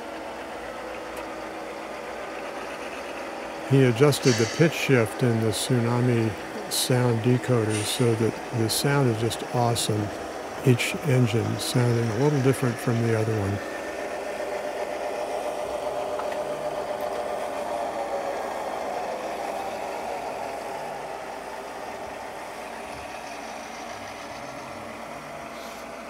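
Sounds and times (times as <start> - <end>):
model diesel engine sounds: 0.0 - 26.0.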